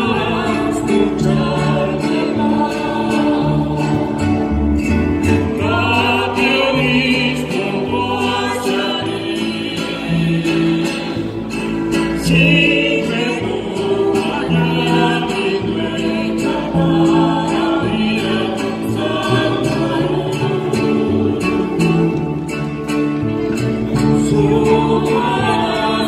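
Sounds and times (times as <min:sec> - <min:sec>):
folk music with guitars: 0:00.0 - 0:26.0
voices singing together: 0:00.0 - 0:26.0.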